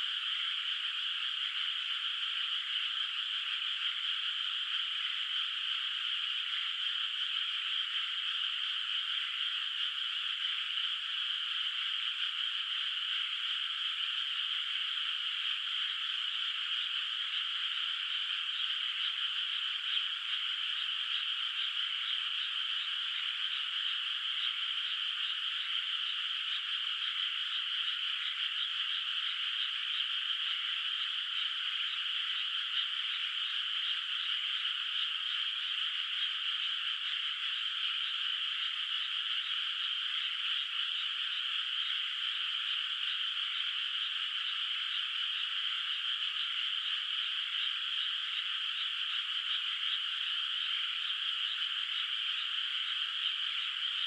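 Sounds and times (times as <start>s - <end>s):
chorus of frogs calling: 0.0s - 54.0s.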